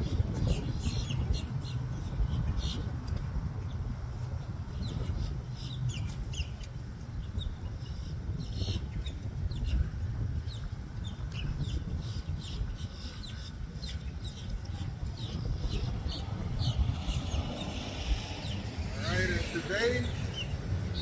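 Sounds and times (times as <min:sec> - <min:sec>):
steady low rumble: 0:00.0 - 0:21.0
birds chirping: 0:03.7 - 0:21.0.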